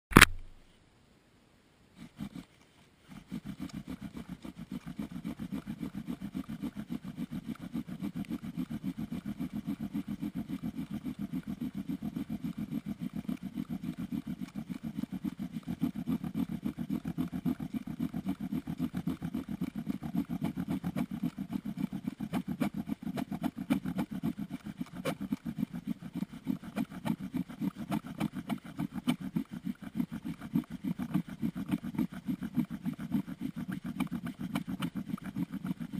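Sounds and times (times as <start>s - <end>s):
bow drill spindle grinding wood: 2.0s - 35.9s.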